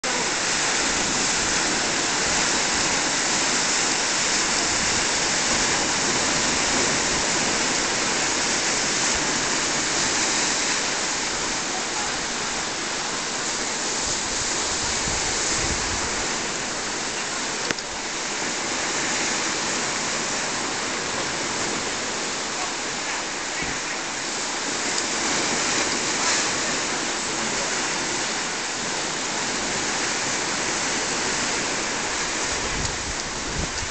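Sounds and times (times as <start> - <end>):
surf washing against shore: 0.0 - 33.9.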